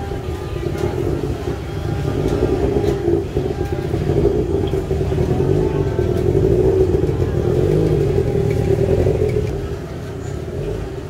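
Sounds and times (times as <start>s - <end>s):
street market bustle: 0.0s - 11.0s
vehicle engine running: 0.0s - 11.0s.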